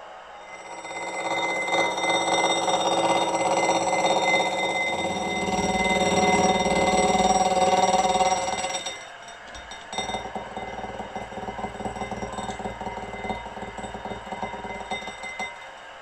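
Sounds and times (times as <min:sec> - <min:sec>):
metallic ringing: 0:00.4 - 0:16.0.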